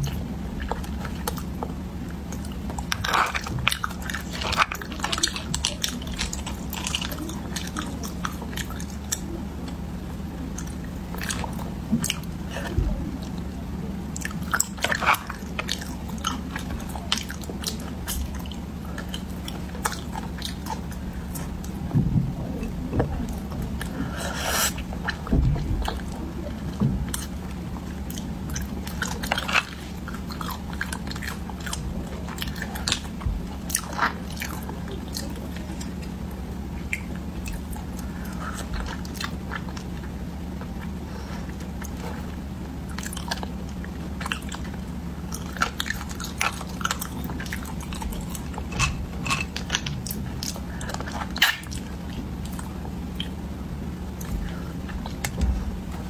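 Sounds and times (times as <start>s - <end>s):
chewing mouth sounds: 0.0s - 56.0s
steady low hum: 0.0s - 56.0s.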